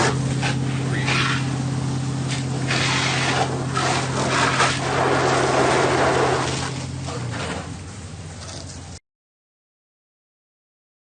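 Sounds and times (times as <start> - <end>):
fire engine idling: 0.0 - 9.0
hose spraying water: 0.0 - 9.0.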